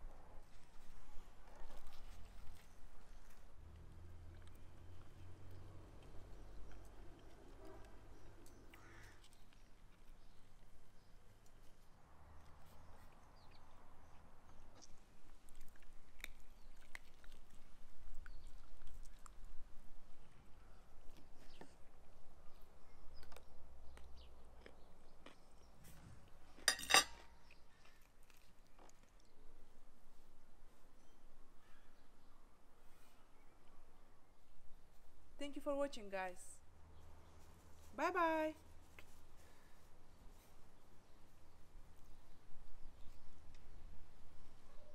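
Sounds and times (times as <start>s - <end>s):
quiet chewing: 0.4s - 32.2s, 38.7s - 44.9s.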